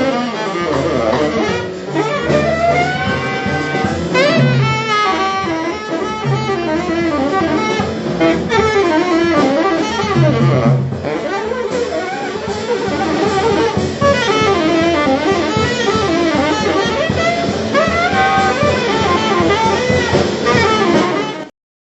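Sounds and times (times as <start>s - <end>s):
bass: 0.0s - 21.5s
drum kit beat: 0.0s - 21.5s
piano: 0.0s - 21.5s
saxophone melody: 0.0s - 21.5s.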